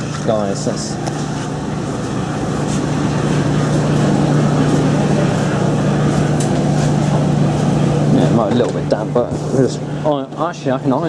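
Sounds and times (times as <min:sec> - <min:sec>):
laundry machines humming: 0:00.0 - 0:11.0
washer drums rumbling: 0:00.0 - 0:11.0.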